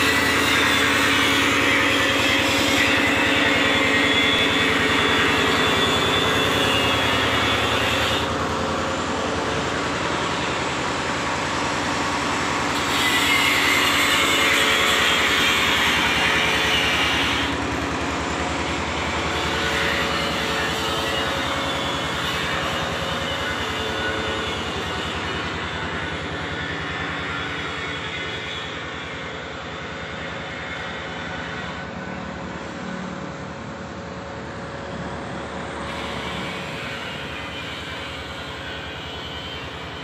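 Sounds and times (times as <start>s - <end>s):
heavy engine running: 0.0s - 40.0s.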